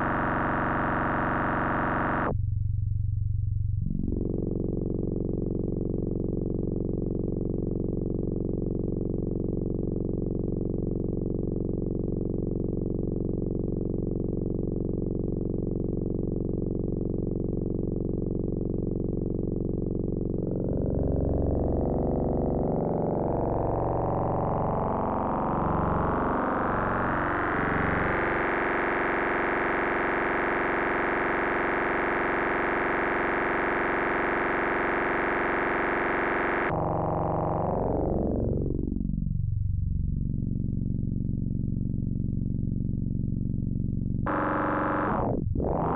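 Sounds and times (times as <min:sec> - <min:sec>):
low synthesizer drone: 0:00.0 - 0:45.9.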